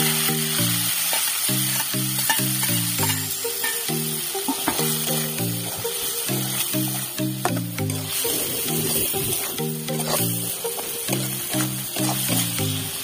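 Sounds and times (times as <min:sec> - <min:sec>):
background music: 0:00.0 - 0:13.0
fish sizzling in hot oil: 0:00.0 - 0:13.0.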